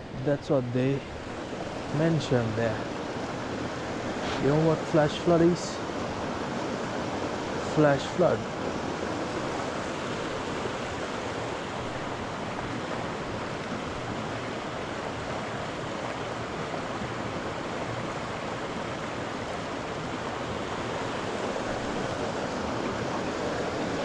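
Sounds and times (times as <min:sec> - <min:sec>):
waterfall rushing into pool: 0:00.2 - 0:24.0.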